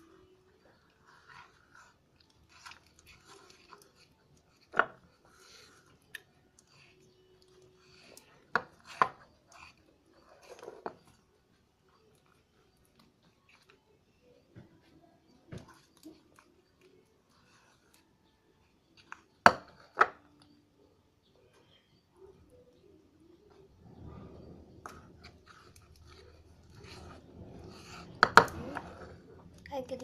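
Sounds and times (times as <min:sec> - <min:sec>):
sticky slime squishing: 0:00.0 - 0:20.5, 0:22.8 - 0:30.0.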